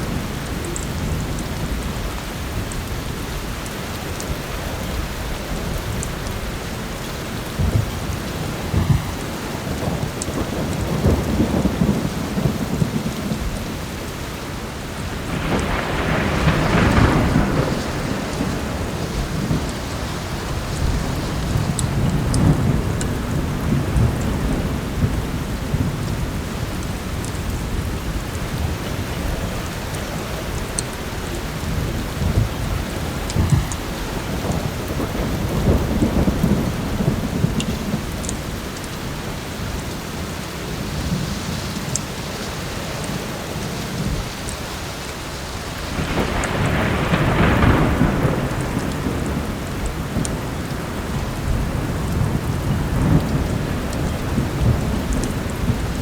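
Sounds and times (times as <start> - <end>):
heavy rain falling: 0.0 - 56.0
thunder rumbling: 0.0 - 56.0.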